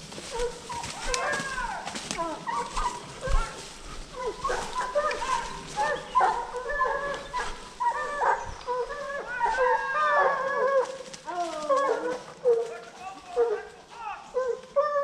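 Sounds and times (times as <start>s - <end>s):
hunting dogs baying: 0.0s - 15.0s.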